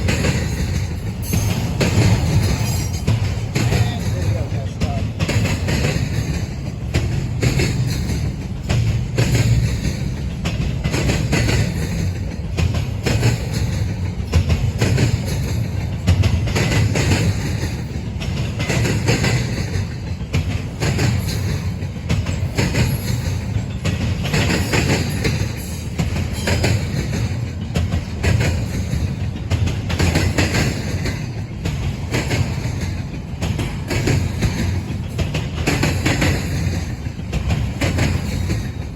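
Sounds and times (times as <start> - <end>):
freight train rumbling past: 0.0 - 38.9
wheels clicking over rail joints: 0.0 - 38.9.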